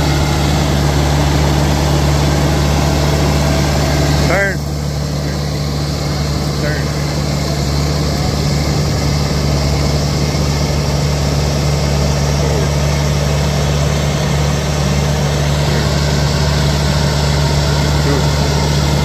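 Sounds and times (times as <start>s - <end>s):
bulldozer diesel engine hum: 0.0s - 19.0s.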